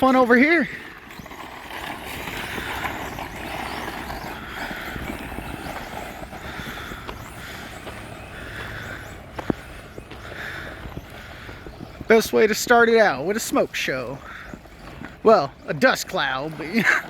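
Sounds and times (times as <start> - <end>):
rc truck tyres churning dirt: 0.0 - 17.0.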